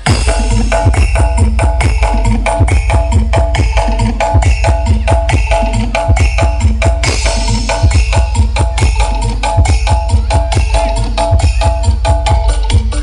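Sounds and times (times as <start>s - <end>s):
loud percussive dance music: 0.0s - 13.0s.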